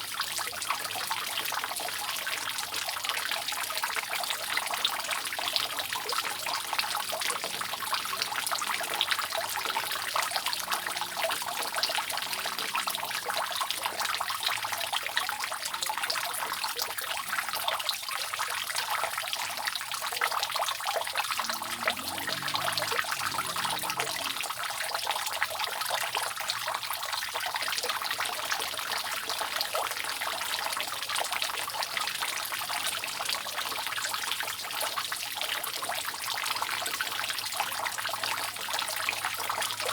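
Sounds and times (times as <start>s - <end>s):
rainwater dripping off roof: 0.0s - 39.9s.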